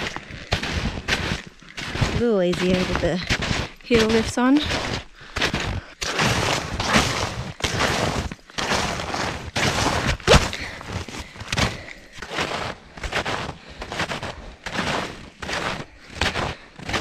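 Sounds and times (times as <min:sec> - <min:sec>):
snowshoes crunching in snow: 0:00.0 - 0:17.0.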